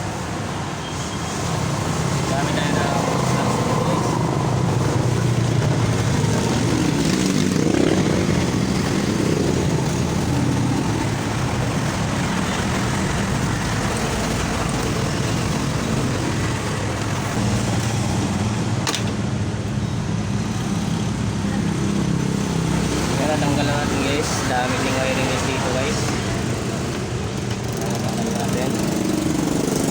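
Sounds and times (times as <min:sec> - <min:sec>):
traffic noise: 0:00.0 - 0:29.9
vehicle engine hum: 0:01.3 - 0:29.9.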